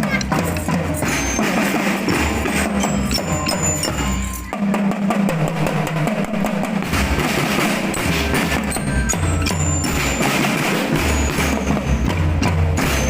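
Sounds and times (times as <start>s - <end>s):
percussion-led music with drums: 0.0s - 13.0s.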